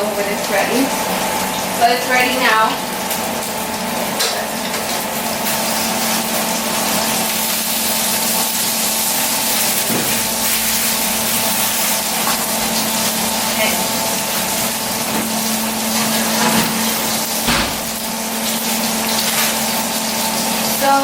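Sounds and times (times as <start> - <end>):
food sizzling on stovetop: 0.0 - 21.0.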